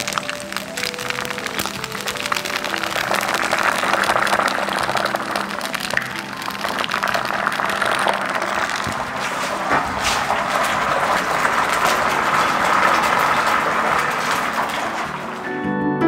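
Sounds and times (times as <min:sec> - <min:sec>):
chicken frying in hot oil: 0:00.0 - 0:15.6.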